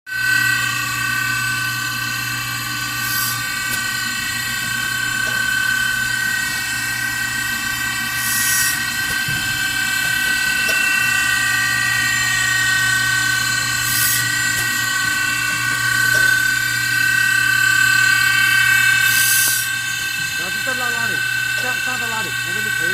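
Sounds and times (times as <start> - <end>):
sharpening machine high whine: 0.1 - 22.9.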